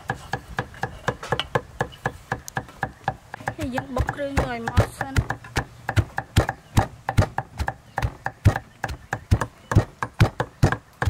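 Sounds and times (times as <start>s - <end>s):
stone pestle pounding in mortar: 0.0s - 10.8s.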